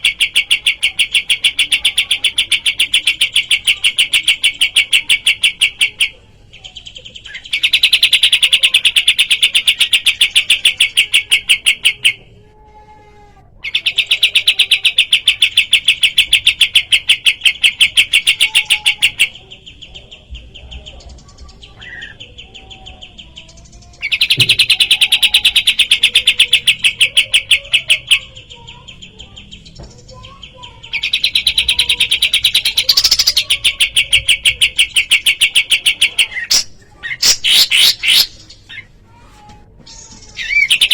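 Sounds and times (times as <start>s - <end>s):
bird rapid-fire trills: 0.0s - 12.3s, 13.6s - 39.1s, 39.7s - 40.9s
other birds chirping softly: 0.0s - 40.9s.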